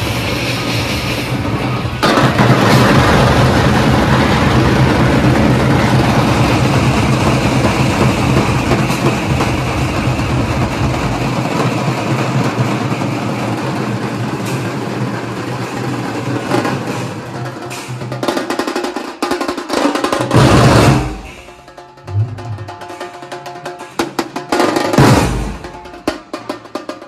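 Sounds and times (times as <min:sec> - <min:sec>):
drum band playing loud rhythm: 0:00.6 - 0:27.0.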